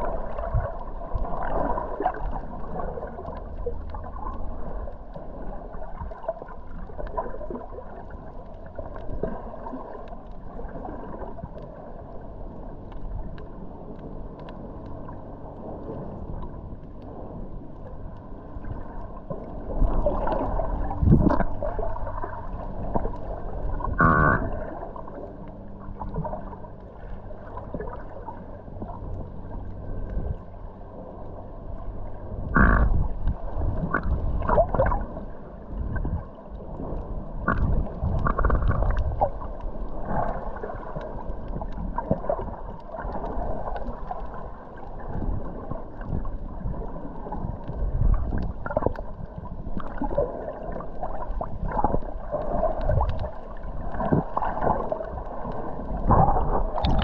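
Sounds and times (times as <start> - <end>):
muffled underwater sloshing and gurgling: 0.0 - 57.0.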